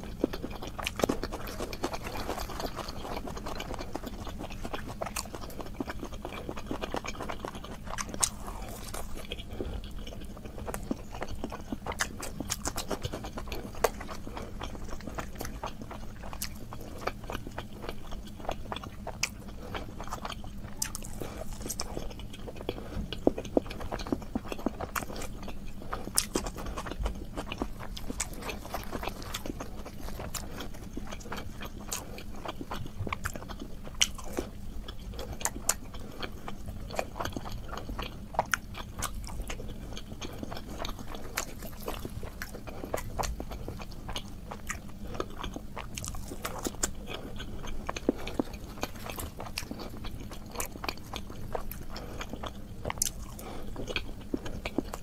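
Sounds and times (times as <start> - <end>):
chewing and lip-smacking: 0.0 - 55.0.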